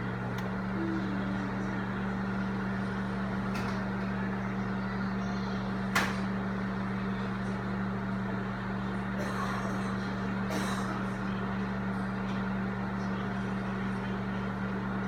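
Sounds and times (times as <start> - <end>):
microwave oven hum: 0.0 - 15.0.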